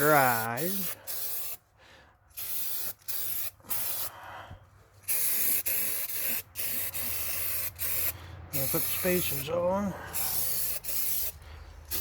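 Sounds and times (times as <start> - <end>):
spray paint can hissing: 0.0 - 1.6, 2.3 - 4.1, 5.0 - 9.5, 10.2 - 12.0.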